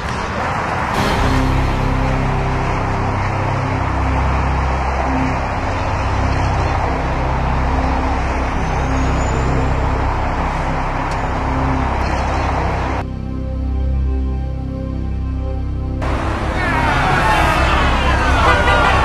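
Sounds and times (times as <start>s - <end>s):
road traffic rushing past: 0.0s - 13.1s, 16.0s - 19.0s
music: 0.9s - 19.0s.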